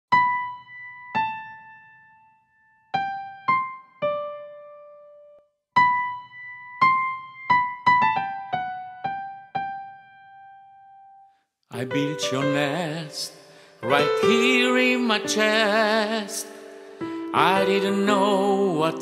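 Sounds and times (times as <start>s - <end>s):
electric piano melody: 0.1s - 19.0s.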